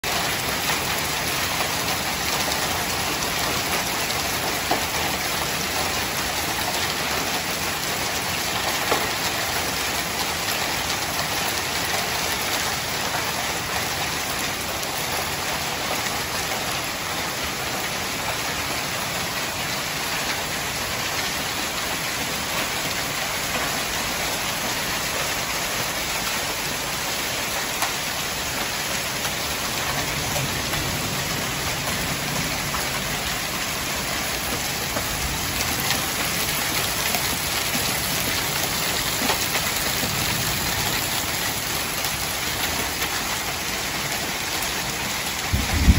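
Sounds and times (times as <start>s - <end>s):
hail and heavy rain falling: 0.0s - 45.9s.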